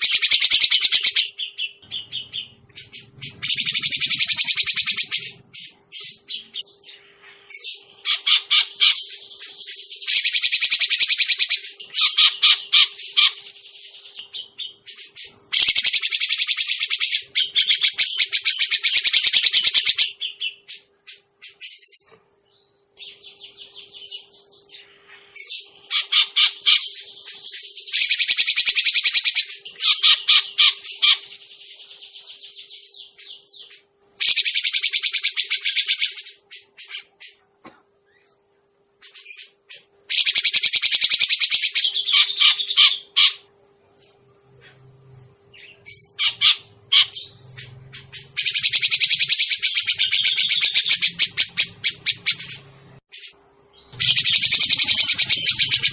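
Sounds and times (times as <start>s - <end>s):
bird chattering calls: 0.0s - 13.6s, 14.2s - 22.0s, 24.9s - 31.4s, 34.2s - 37.4s, 39.0s - 43.5s, 45.6s - 55.9s
faint steady hum: 0.0s - 55.9s.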